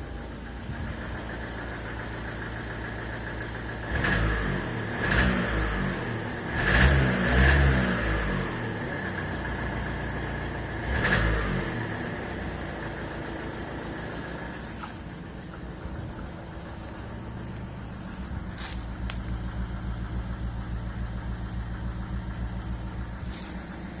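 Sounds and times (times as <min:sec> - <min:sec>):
diesel engine idling with ticking knock: 0:00.0 - 0:24.0.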